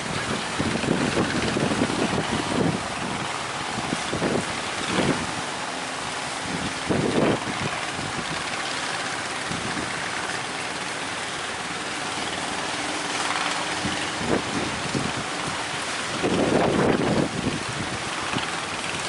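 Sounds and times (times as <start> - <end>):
rush of wind: 0.0 - 19.0
speedboat engine running: 0.0 - 19.0
surf: 0.0 - 19.0.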